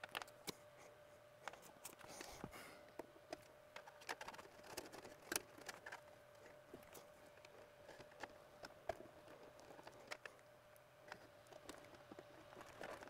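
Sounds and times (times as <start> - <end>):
faint steady hum: 0.0 - 13.0
small clicks and scrapes: 0.0 - 13.0.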